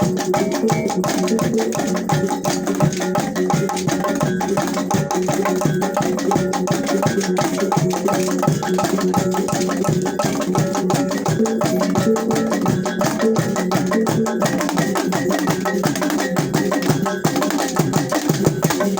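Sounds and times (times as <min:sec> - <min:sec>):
drum beat: 0:00.0 - 0:18.9
tuned percussion strikes: 0:00.0 - 0:18.9.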